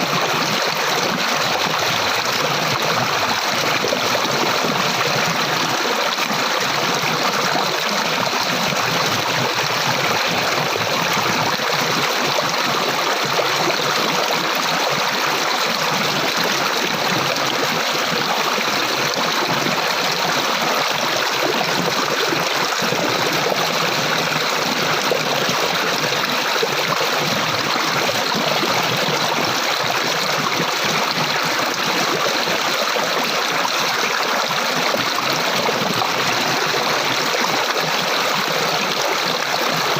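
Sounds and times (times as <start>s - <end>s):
stream of water rushing: 0.0s - 39.9s.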